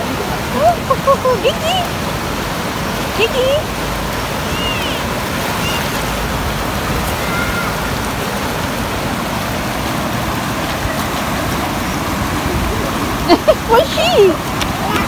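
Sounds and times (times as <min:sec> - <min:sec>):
river rapids roaring: 0:00.0 - 0:15.0.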